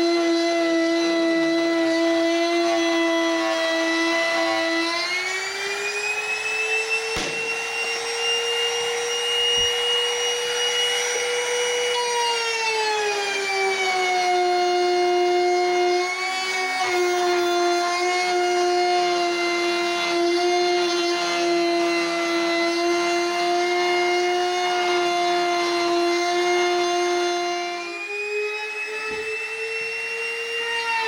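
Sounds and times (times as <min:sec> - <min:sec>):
wood router whining: 0:00.0 - 0:31.0.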